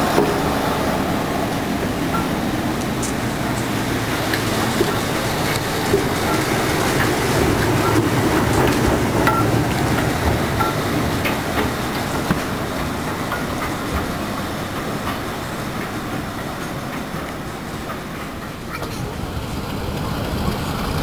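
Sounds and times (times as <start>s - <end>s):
diesel locomotive engine working: 0.0s - 21.0s
train wheel clicks: 0.0s - 21.0s.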